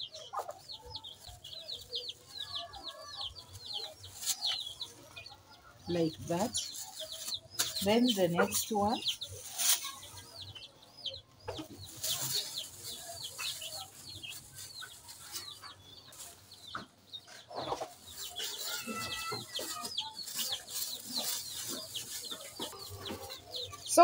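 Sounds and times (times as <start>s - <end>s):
chickens peeping and clucking: 0.0s - 24.0s.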